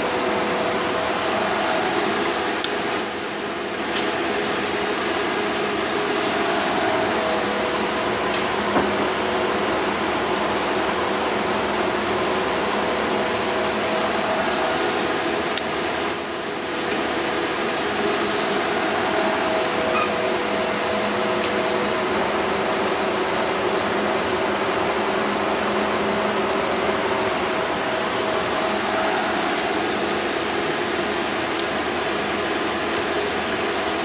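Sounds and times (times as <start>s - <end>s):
lathe mechanical hum: 0.0s - 34.0s.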